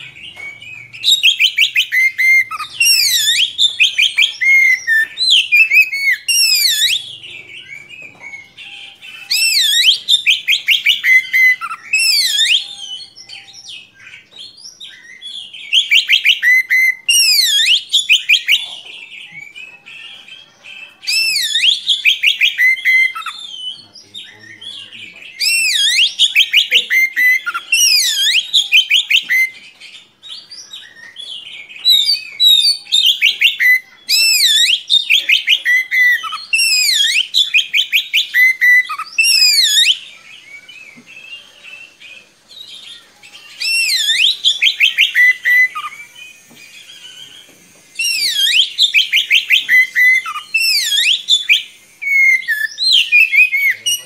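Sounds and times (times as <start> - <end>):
songbird singing whistled notes: 0.0 - 54.0.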